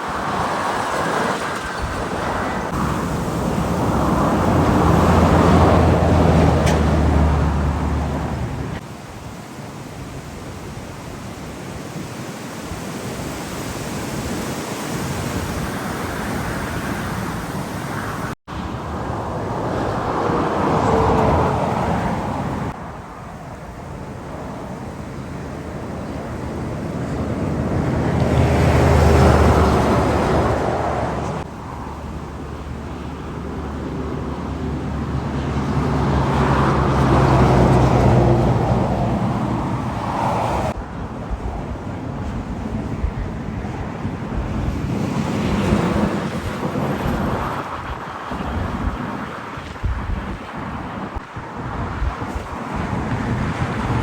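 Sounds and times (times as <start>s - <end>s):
heavy trucks passing: 0.0s - 8.8s, 14.2s - 54.0s
wind buffeting microphone: 0.0s - 54.0s.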